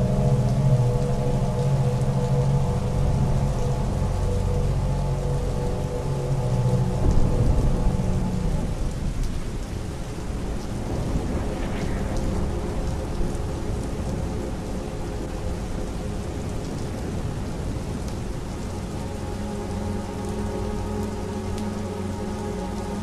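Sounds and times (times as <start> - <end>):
thunder rumbling: 0.0 - 21.6
steady rain: 0.0 - 23.0
raindrop ticks: 0.1 - 23.0.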